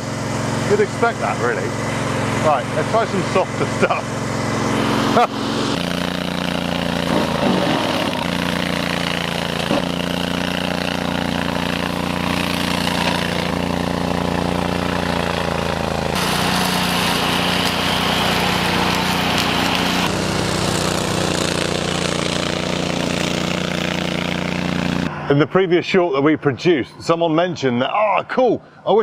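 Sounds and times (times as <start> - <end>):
mower cutting brush: 0.0 - 25.2
mower engine running: 0.0 - 25.4.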